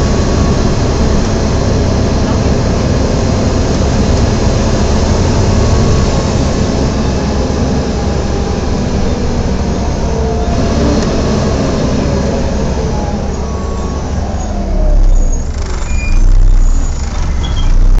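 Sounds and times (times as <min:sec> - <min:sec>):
bus engine cooling fan roar: 0:00.0 - 0:18.0
bus engine running: 0:00.0 - 0:18.0.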